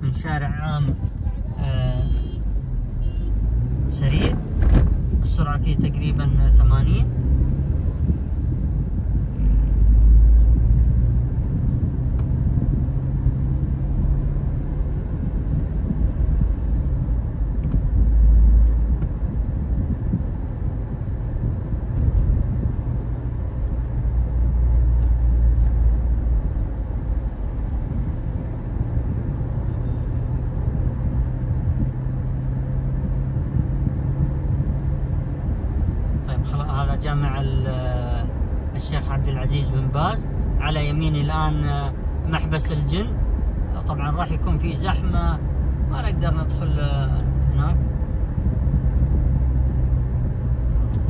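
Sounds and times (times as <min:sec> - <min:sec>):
car engine rumble inside cabin: 0:00.0 - 0:51.0.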